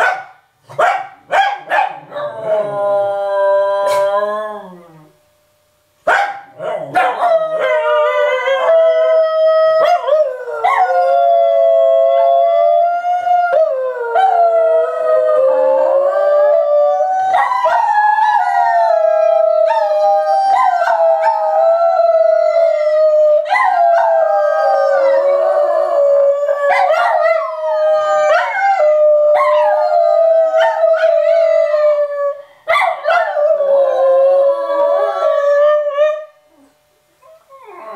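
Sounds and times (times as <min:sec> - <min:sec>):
dogs howling: 0:02.0 - 0:05.1, 0:06.6 - 0:36.3.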